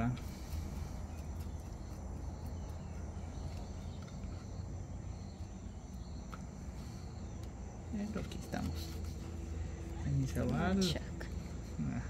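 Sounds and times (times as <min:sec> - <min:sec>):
insects chirring: 0:00.0 - 0:12.0
low steady rumble: 0:00.0 - 0:12.0.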